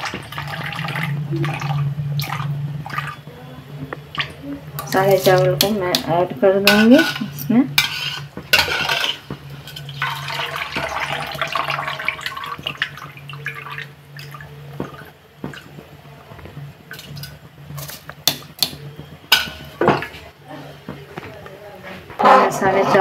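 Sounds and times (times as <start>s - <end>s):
water simmering and bubbling: 0.0s - 6.0s, 7.4s - 20.5s
low hum: 0.0s - 20.9s.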